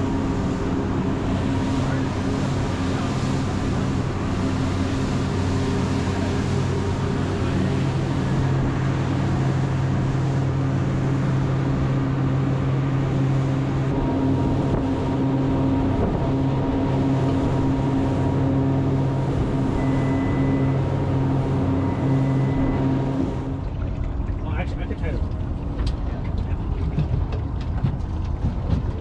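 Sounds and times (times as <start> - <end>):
outboard engine running: 0.0 - 29.0.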